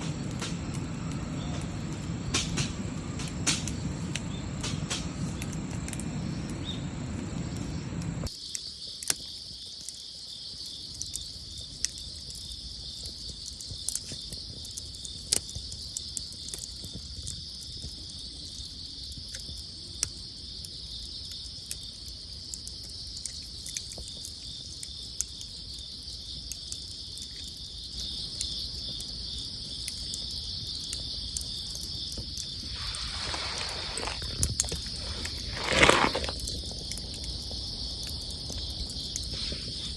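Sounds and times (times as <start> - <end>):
campfire crackling: 0.0 - 39.9
insects chirping: 0.0 - 39.9.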